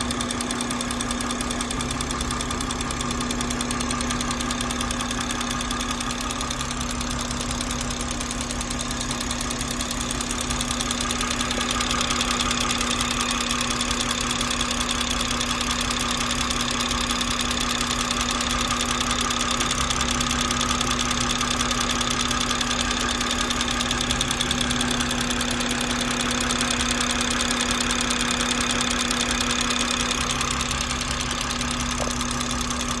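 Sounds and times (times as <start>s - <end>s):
car engine running: 0.0s - 33.0s
rapid engine ticking: 0.0s - 33.0s.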